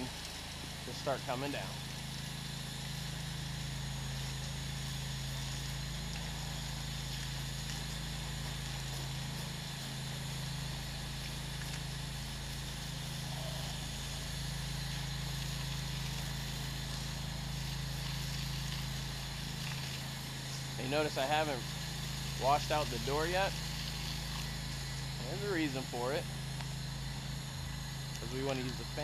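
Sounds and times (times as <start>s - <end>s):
pressure washer humming: 0.0s - 29.0s
water spray hissing on brick: 0.0s - 29.0s.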